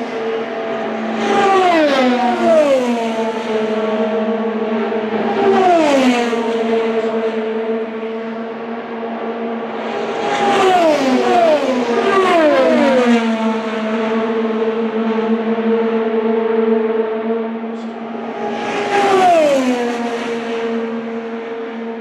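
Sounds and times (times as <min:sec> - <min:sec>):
race cars passing at speed: 0:00.0 - 0:22.0
steady engine drone: 0:00.0 - 0:22.0.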